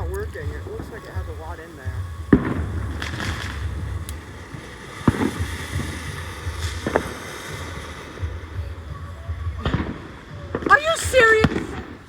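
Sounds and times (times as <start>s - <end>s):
wind rumble on microphone: 0.0s - 10.7s
firework bangs: 0.0s - 12.0s.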